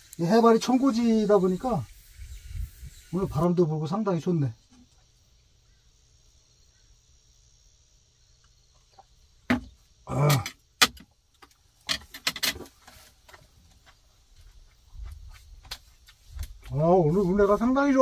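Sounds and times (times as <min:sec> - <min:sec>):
faint high hiss: 0:00.0 - 0:18.0.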